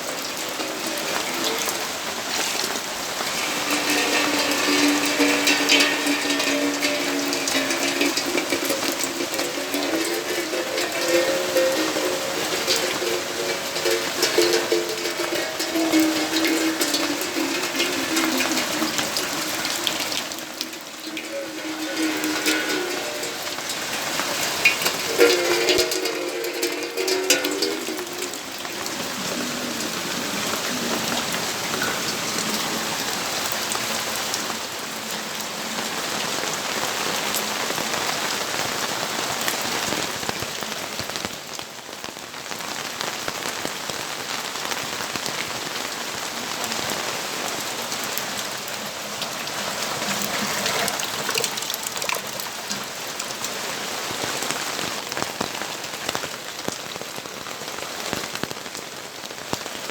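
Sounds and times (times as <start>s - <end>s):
raindrops ticking: 0.0s - 59.9s
steady rainfall: 0.0s - 59.9s.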